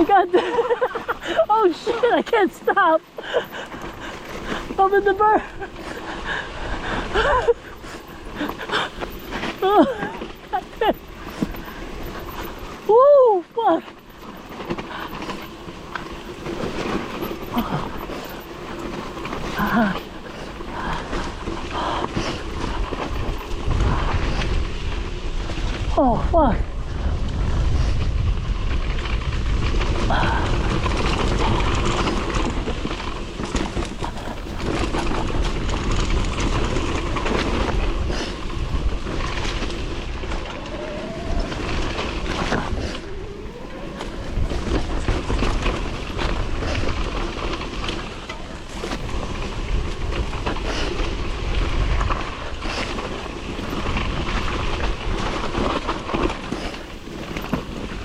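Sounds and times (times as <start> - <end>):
rattling and knocking on trail: 0.0 - 58.0
wind buffeting microphone: 0.0 - 58.0.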